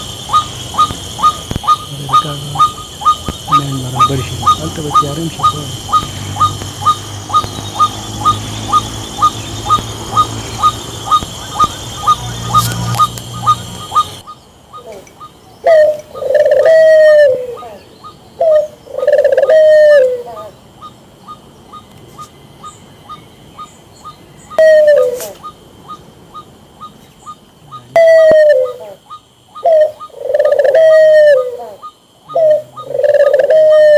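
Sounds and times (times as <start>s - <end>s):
drawn-out falling bird calls: 0.0s - 33.9s
steady background hum: 0.0s - 33.9s.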